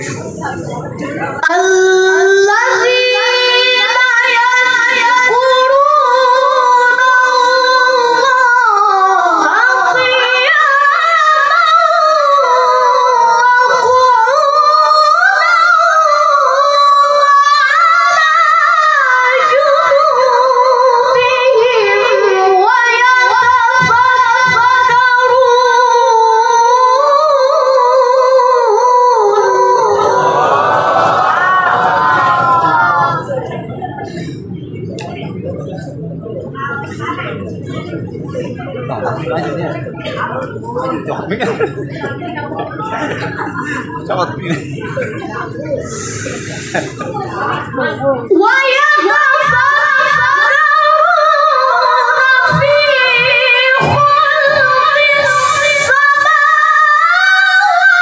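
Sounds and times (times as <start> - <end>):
high voice chanting recitation: 0.0 - 58.0.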